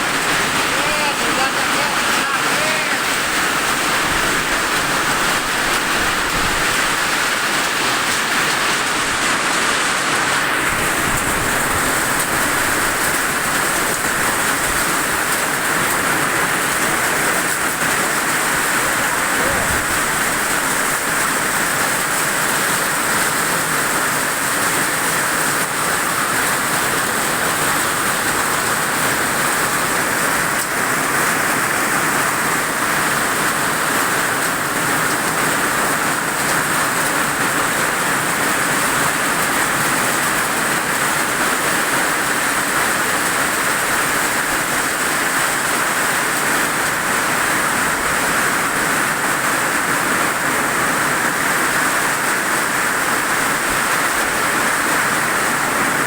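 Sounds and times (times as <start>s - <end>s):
rain in strong wind: 0.0s - 56.0s.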